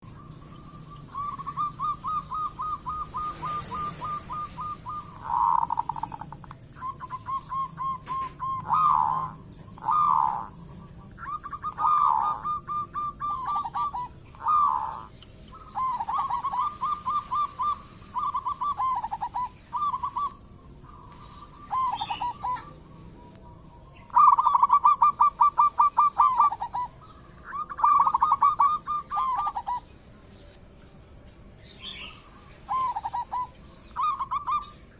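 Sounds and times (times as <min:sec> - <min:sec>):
dove cooing: 0:00.0 - 0:30.1, 0:31.8 - 0:34.9
high bird chirps: 0:00.0 - 0:30.5, 0:31.6 - 0:34.9.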